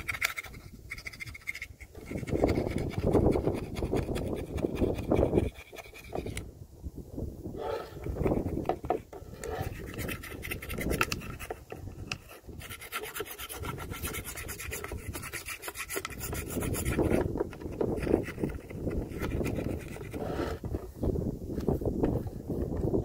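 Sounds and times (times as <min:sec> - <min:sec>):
hand tool scraping and rasping: 0:00.0 - 0:06.4, 0:07.6 - 0:20.9.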